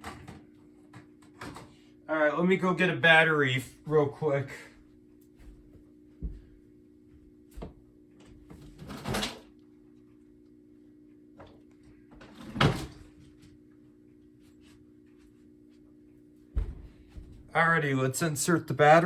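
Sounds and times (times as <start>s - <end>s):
steady low hum: 0.2s - 19.0s.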